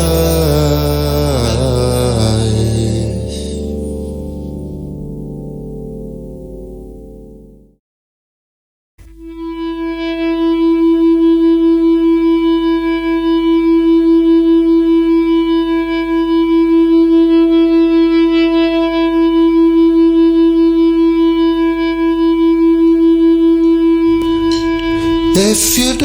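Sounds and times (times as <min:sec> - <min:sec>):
pulsing sustained drone note: 0:00.0 - 0:06.6, 0:09.1 - 0:26.0.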